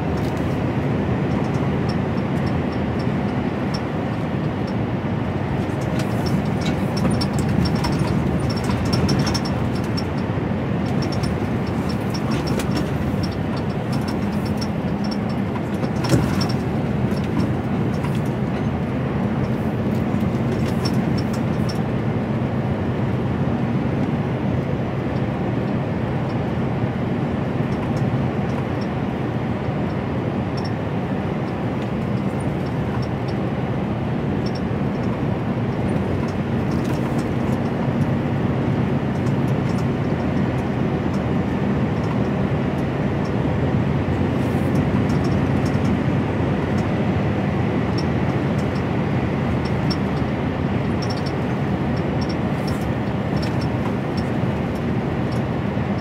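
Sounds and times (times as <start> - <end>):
diesel engine drone: 0.0 - 56.0
road noise: 0.0 - 56.0.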